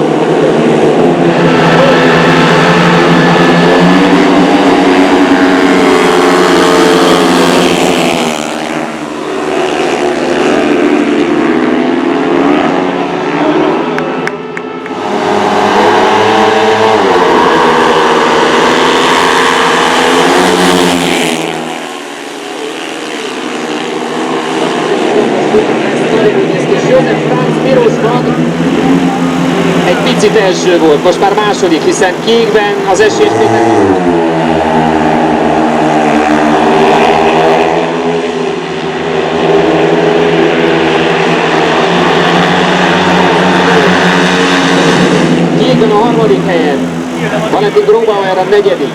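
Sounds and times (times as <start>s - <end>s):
motorcycles racing past: 0.0s - 48.9s.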